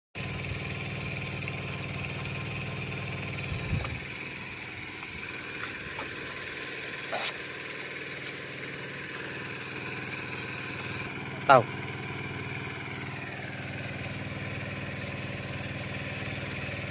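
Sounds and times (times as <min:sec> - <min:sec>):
water pump engine humming: 0:00.2 - 0:16.9.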